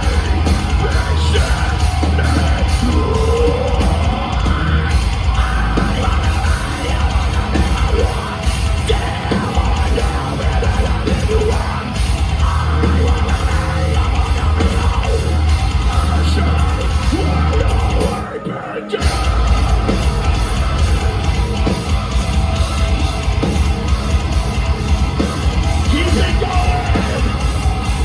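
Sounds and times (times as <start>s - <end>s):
metalcore band playing live: 0.0s - 28.0s.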